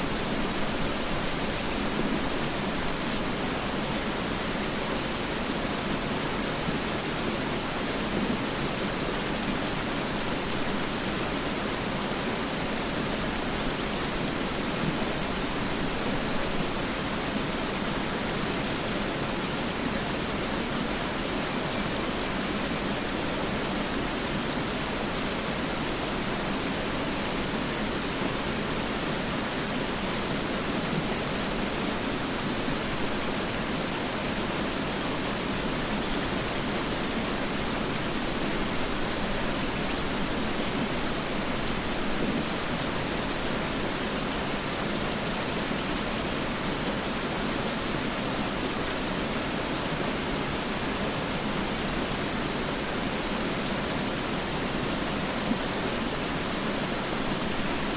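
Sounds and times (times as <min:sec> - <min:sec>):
river flowing: 0:00.0 - 0:57.9.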